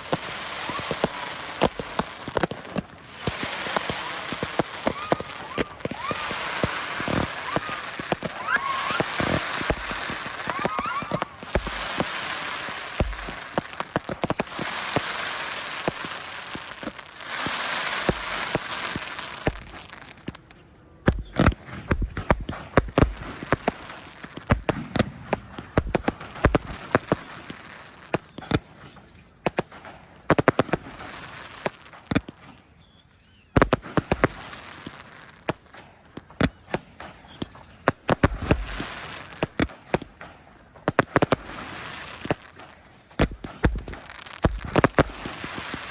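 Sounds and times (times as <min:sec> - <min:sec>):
fireworks bangs: 0:00.0 - 0:45.9
fireworks hissing crackle: 0:00.0 - 0:45.9.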